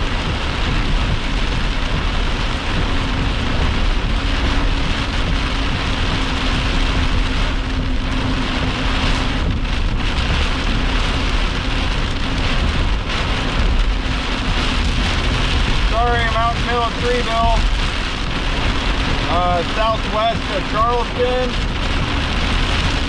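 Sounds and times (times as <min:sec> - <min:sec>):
heavy rain on vehicle roof: 0:00.0 - 0:23.0.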